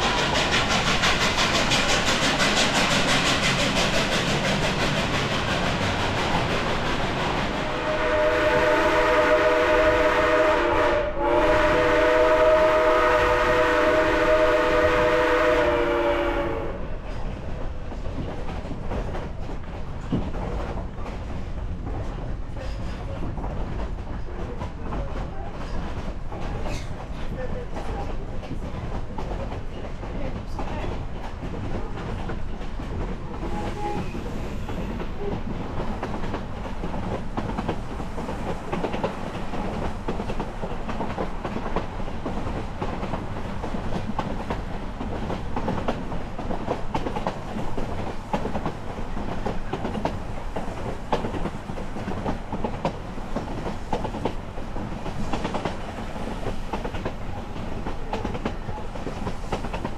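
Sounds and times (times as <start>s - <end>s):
rumble of moving rail car: 0.0s - 59.9s
train wheels clattering over rails: 0.0s - 59.9s.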